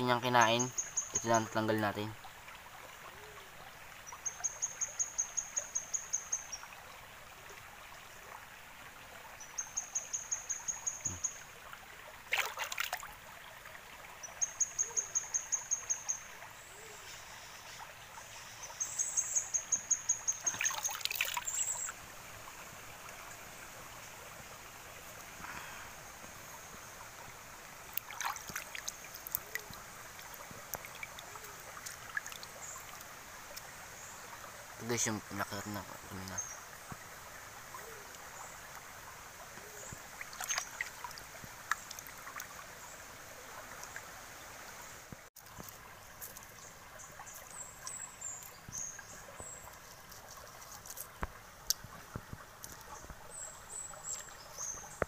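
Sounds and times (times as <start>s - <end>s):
stream trickling: 0.0s - 55.0s.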